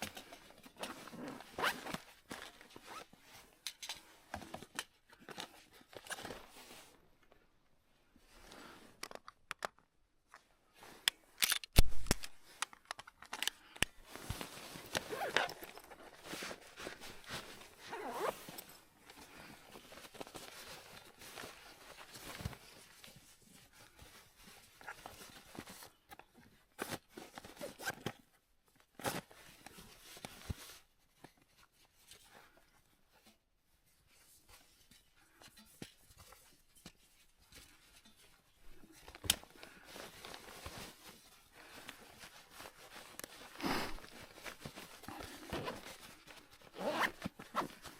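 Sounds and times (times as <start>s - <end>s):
rustling and scraping: 0.0s - 7.4s, 10.3s - 26.1s, 29.0s - 47.9s.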